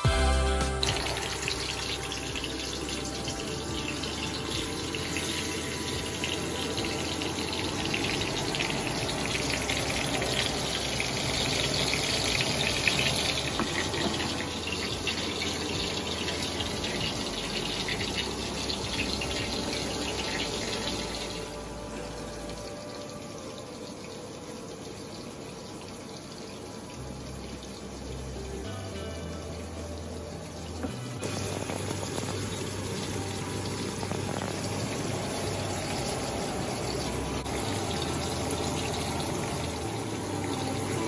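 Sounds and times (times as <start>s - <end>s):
fish sizzling in hot oil: 0.0s - 41.0s.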